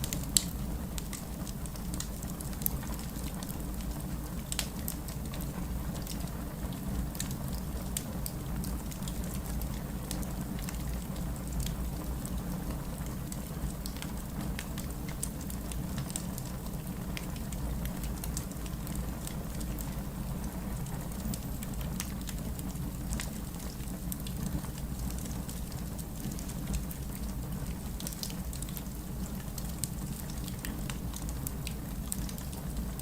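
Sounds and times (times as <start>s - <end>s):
heavy rain: 0.0s - 33.0s
wood fire crackling: 0.0s - 33.0s.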